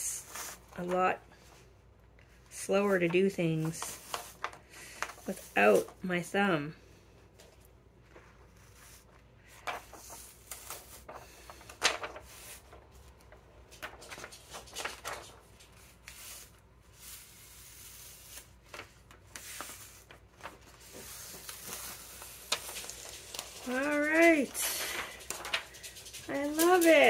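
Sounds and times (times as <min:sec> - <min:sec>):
plastic sheet peeling and crinkling: 0:02.8 - 0:06.0, 0:08.0 - 0:27.0.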